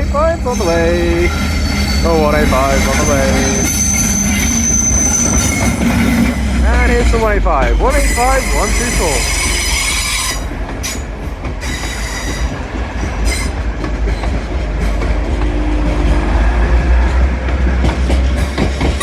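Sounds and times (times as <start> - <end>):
train wheel squeals: 0.0 - 15.2
freight train wheels clattering: 0.0 - 19.0.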